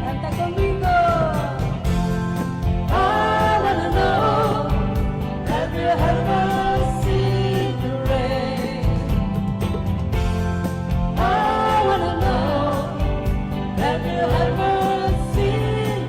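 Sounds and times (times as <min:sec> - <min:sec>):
person singing: 0:00.0 - 0:02.1, 0:02.9 - 0:09.4, 0:11.2 - 0:16.0
bass line: 0:00.0 - 0:16.0
steady percussion beat: 0:00.0 - 0:16.0.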